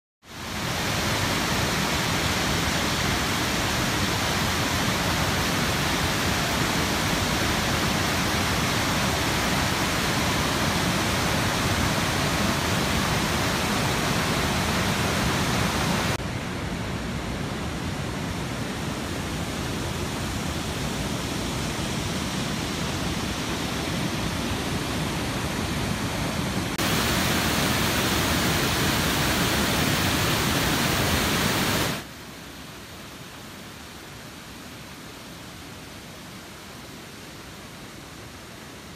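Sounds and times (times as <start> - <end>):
river rushing over boulders: 0.3 - 38.9.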